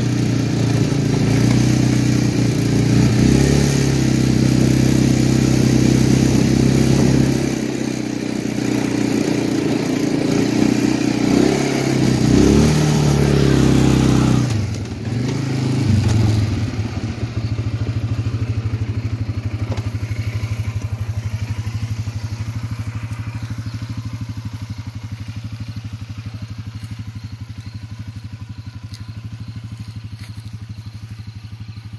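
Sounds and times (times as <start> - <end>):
atv engine revving and idling: 0.0 - 31.9.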